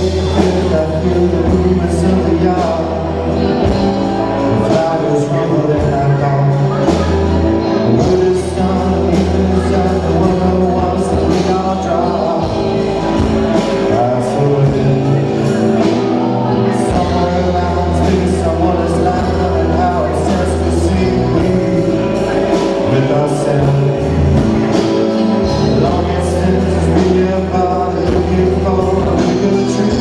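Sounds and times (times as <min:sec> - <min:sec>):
live rock band playing: 0:00.0 - 0:30.0
man singing lead vocal: 0:00.0 - 0:30.0.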